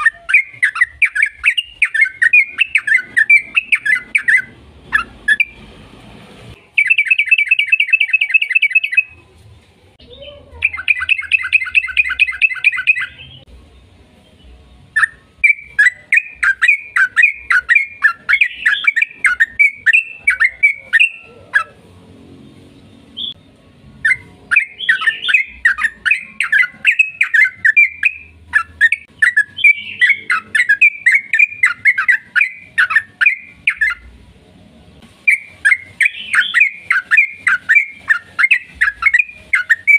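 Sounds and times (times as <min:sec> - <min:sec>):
bird singing trills and chattering: 0:00.0 - 0:05.6, 0:06.7 - 0:09.2, 0:10.1 - 0:13.5, 0:15.0 - 0:21.8, 0:24.0 - 0:34.1, 0:35.3 - 0:39.9.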